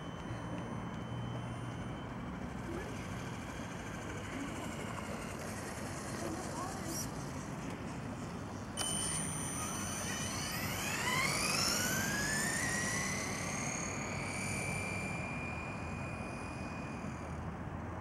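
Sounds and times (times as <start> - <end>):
electric toy car motor whine: 0.0 - 7.6, 8.6 - 18.0.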